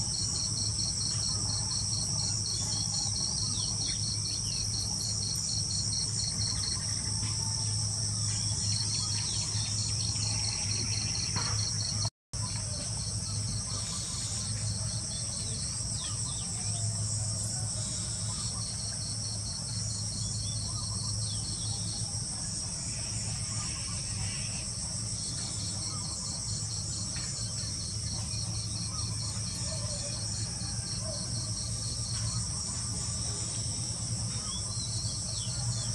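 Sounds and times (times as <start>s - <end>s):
crickets chirping: 0.0s - 35.9s.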